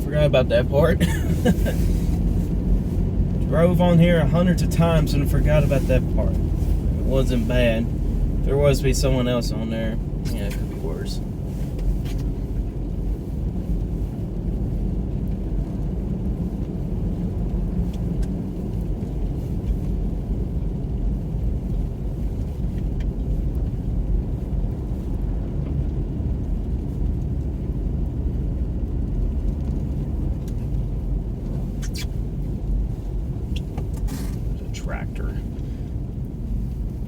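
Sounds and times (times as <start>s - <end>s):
car road rumble on snow: 0.0s - 37.0s.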